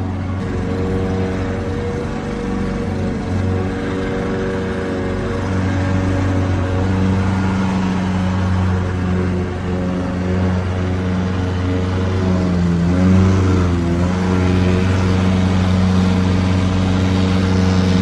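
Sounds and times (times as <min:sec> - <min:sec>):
lawnmower engine running: 0:00.0 - 0:18.0.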